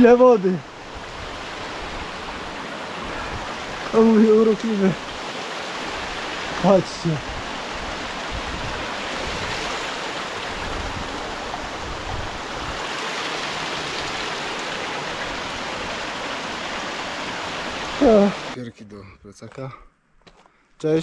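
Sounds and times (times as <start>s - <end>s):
stream rushing over rocks: 0.0s - 18.6s.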